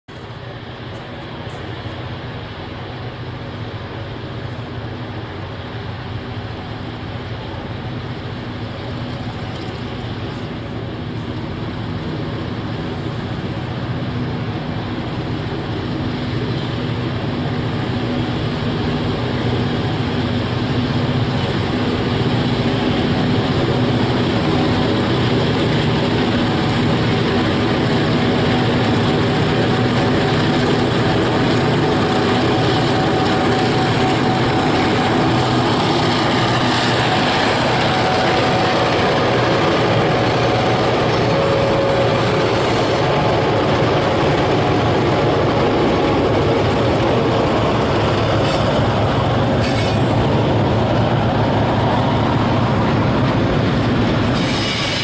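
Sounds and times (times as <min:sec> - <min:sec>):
diesel locomotive engines droning: 0:00.0 - 0:55.0.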